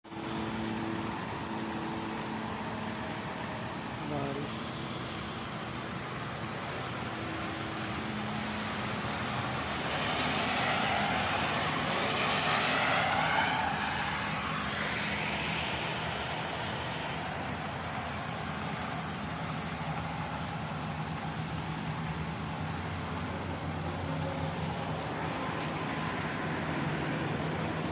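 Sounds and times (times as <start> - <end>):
car passing on wet road: 0.1 - 27.9
low traffic hum: 0.1 - 27.9.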